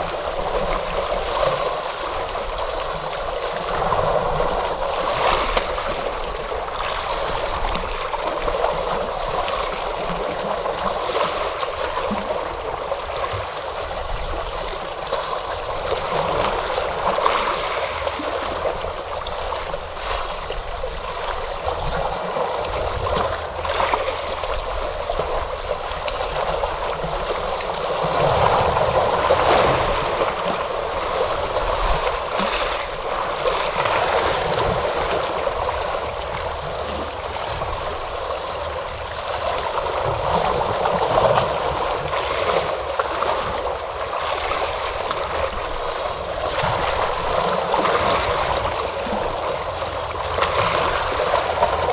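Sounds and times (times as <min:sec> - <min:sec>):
ocean waves washing ashore: 0:00.0 - 0:51.9.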